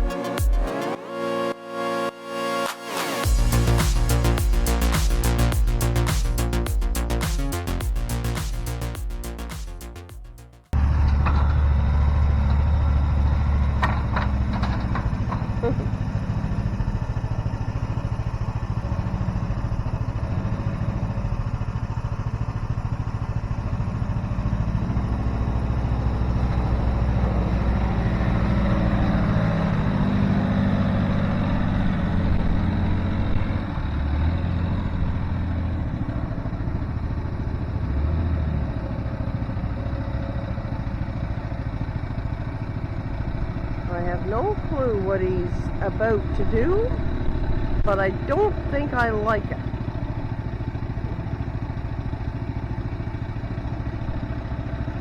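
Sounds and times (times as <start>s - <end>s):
small engine running: 10.8s - 55.0s.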